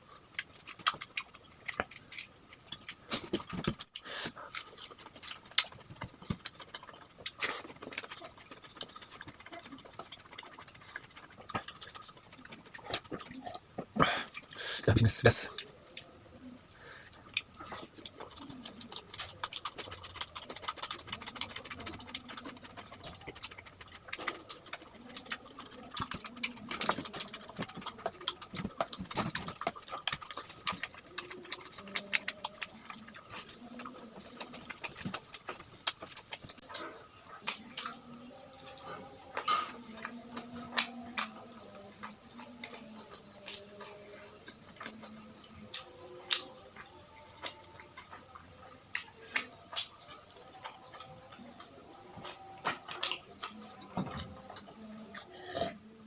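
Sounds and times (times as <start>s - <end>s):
chewing with wet mouth clicks: 0.0s - 56.0s.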